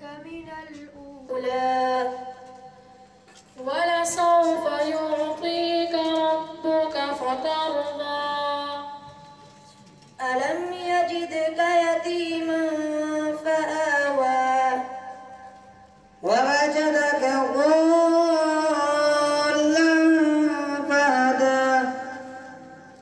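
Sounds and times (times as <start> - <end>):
boy chanting through a microphone: 0.0 - 3.0, 3.6 - 9.5, 10.2 - 15.5, 16.2 - 23.0.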